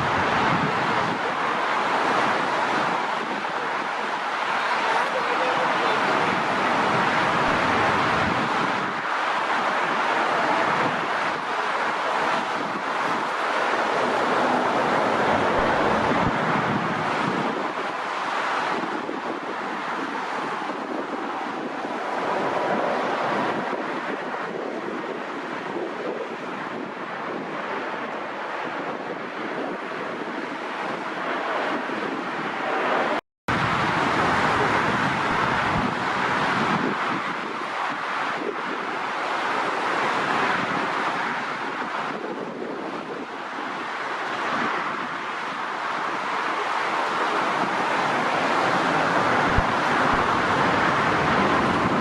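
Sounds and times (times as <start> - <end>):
jet engines rushing: 0.0 - 52.0
wind on microphone: 0.0 - 52.0.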